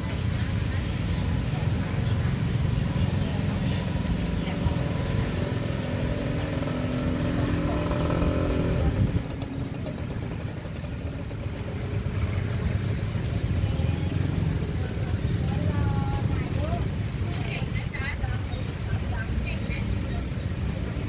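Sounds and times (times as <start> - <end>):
traffic rumble: 0.0 - 21.0
vehicle engine running: 0.0 - 21.0.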